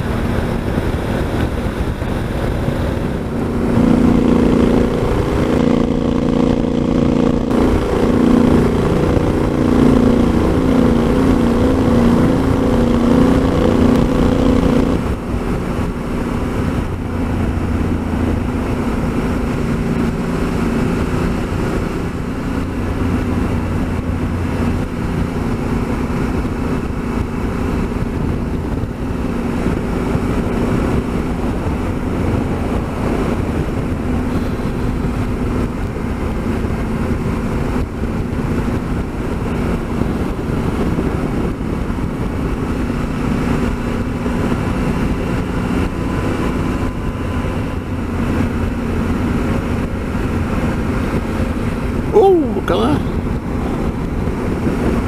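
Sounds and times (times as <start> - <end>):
motorcycle engine cruising: 0.0 - 55.0
wind noise on microphone: 0.0 - 55.0.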